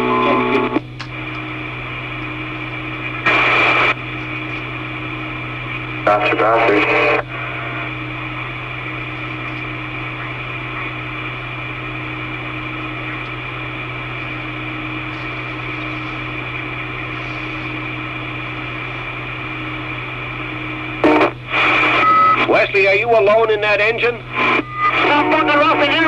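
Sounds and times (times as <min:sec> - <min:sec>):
radio receiver hiss and hum: 0:00.0 - 0:26.0.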